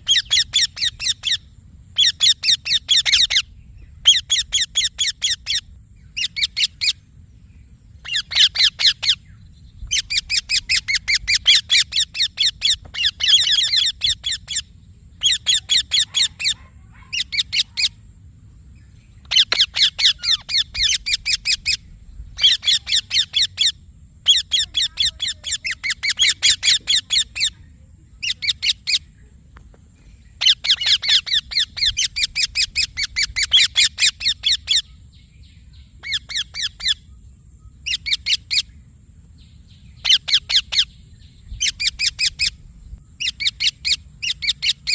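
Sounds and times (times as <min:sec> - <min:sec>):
parakeet chirping: 0:00.0 - 0:07.0, 0:08.0 - 0:18.0, 0:19.2 - 0:27.6, 0:28.2 - 0:29.0, 0:30.4 - 0:34.9, 0:36.0 - 0:37.0, 0:37.8 - 0:38.7, 0:40.0 - 0:41.0, 0:41.6 - 0:42.6, 0:43.2 - 0:44.9.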